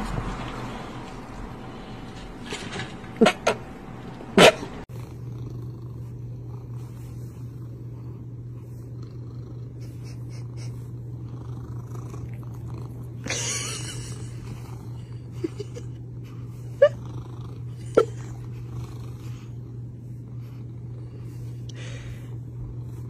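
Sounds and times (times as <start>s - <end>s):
cat purring: 4.4s - 23.0s.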